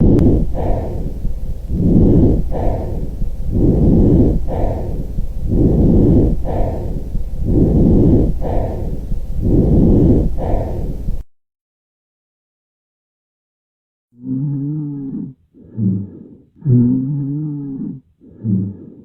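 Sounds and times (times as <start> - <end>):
breathing through a stethoscope: 0.1 - 11.3, 14.2 - 19.0.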